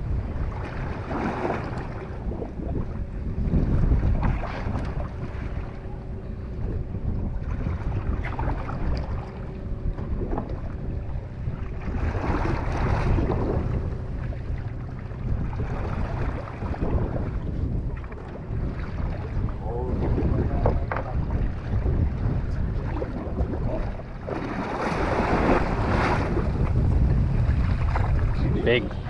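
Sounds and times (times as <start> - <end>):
boat engine humming: 0.0 - 29.0
wind buffeting microphone: 0.0 - 29.0.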